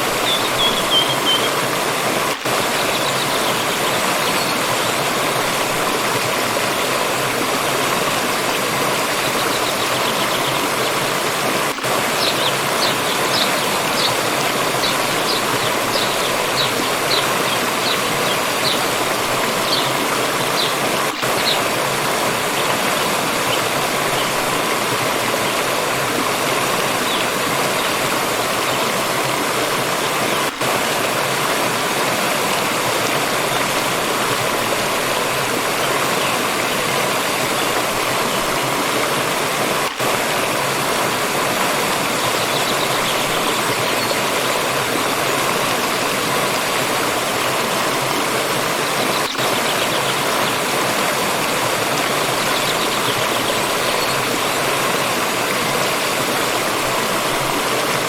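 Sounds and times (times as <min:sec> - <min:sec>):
water stream flowing and splashing: 0:00.0 - 0:58.0.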